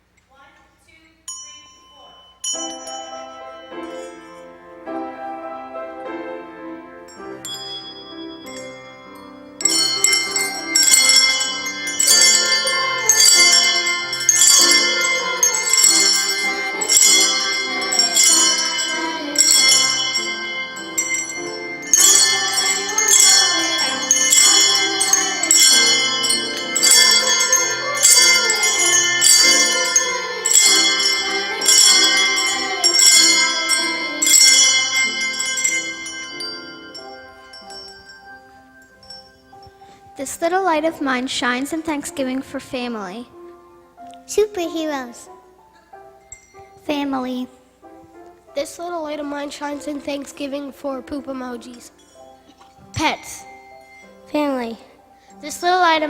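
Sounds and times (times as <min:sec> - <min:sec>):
handbells playing a tune: 0:01.3 - 0:06.0, 0:07.0 - 0:43.5, 0:44.6 - 0:56.0.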